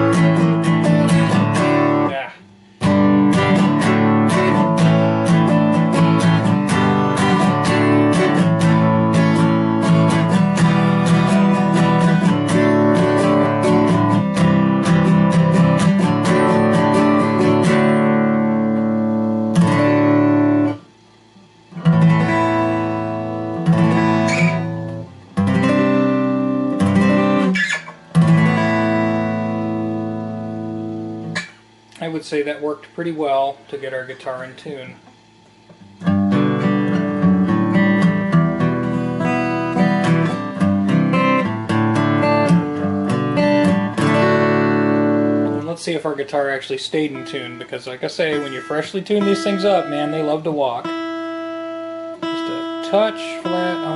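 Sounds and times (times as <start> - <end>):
guitar picked and strummed: 0.0 - 53.9
strummed guitar chords ringing: 0.0 - 53.9.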